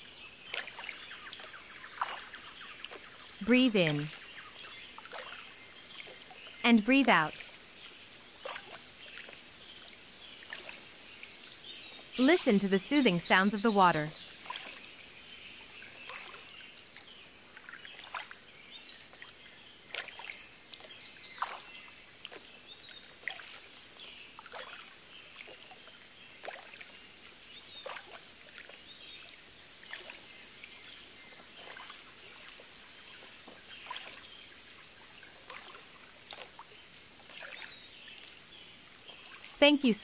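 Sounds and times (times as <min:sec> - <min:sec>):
water lapping against boat: 0:00.0 - 0:39.7.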